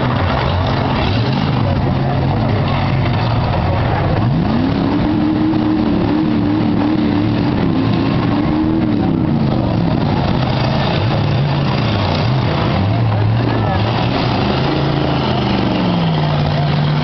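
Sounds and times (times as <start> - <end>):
car engine revving: 0.0 - 17.0
engines running low: 0.0 - 17.0.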